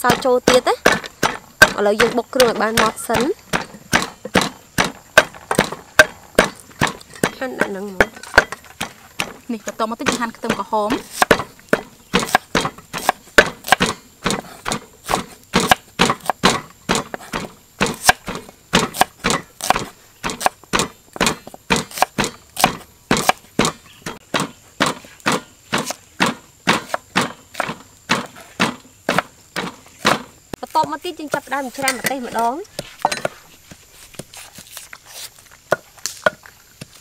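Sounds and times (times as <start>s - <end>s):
knife chopping on wooden block: 0.0s - 30.3s.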